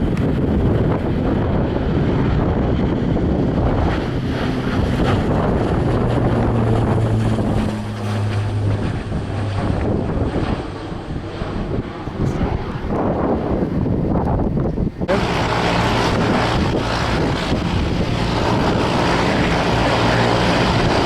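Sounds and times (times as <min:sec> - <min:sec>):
aircraft engines: 0:00.0 - 0:21.0
low hum: 0:00.0 - 0:21.0
wind buffeting microphone: 0:00.0 - 0:21.0.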